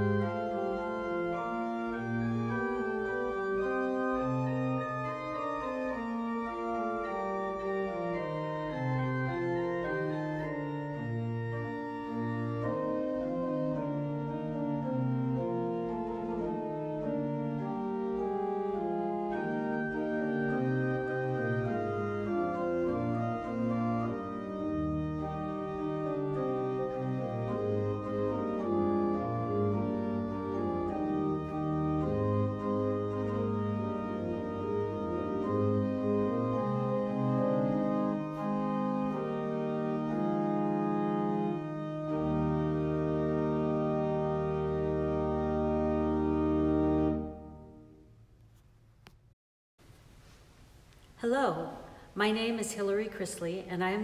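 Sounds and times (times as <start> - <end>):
organ chords: 0.0 - 48.1.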